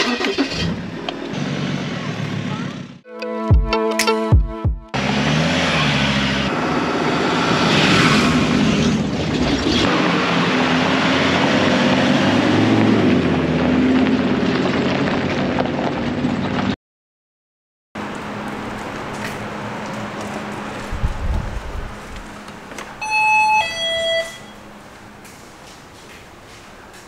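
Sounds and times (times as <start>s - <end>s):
tyre and road noise: 0.0s - 3.0s, 4.9s - 16.8s, 18.0s - 27.0s
vehicle engine rising and falling: 0.0s - 3.0s, 4.9s - 16.8s, 18.0s - 27.0s.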